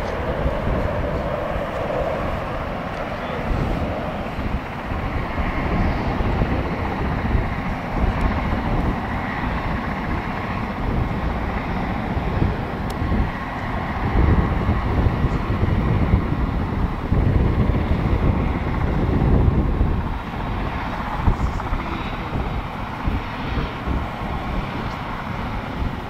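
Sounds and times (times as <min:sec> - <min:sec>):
jet airliner flying overhead: 0:00.0 - 0:26.0.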